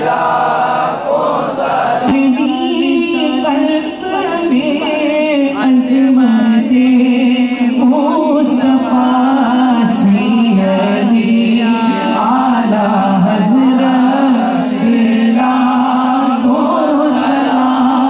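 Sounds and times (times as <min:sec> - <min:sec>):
man singing unaccompanied: 0:01.9 - 0:18.0.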